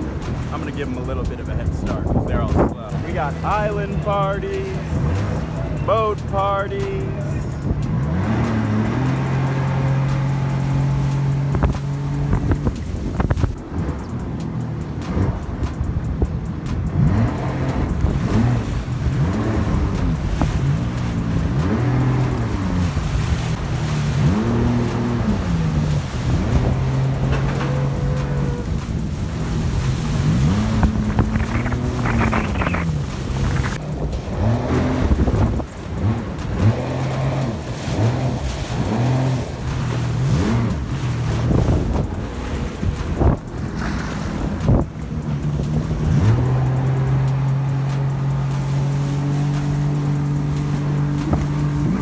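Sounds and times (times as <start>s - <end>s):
jet ski engine running: 0.0s - 52.0s
water rushing past hull: 0.0s - 52.0s
wind buffeting microphone: 0.0s - 52.0s.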